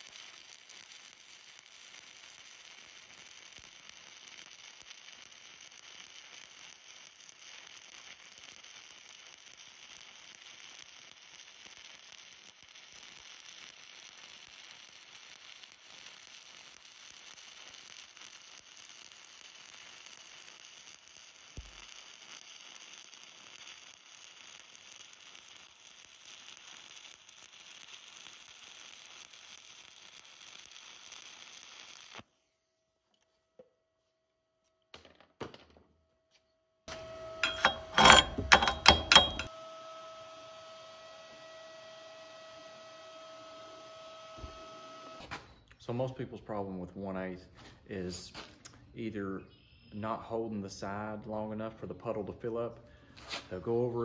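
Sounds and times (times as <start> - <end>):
welding arc crackling sizzle: 0.0 - 32.3, 36.9 - 54.0.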